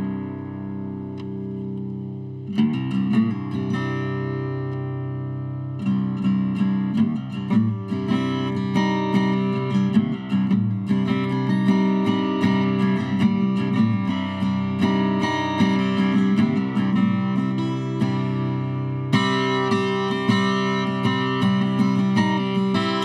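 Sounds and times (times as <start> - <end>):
guitar music: 0.0 - 23.0.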